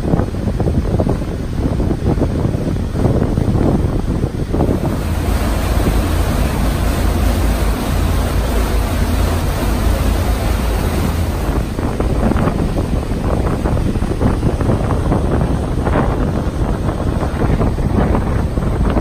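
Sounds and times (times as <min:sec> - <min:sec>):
water rushing in wake: 0:00.0 - 0:19.0
wind buffeting microphone: 0:00.0 - 0:19.0
low rumble: 0:03.0 - 0:19.0.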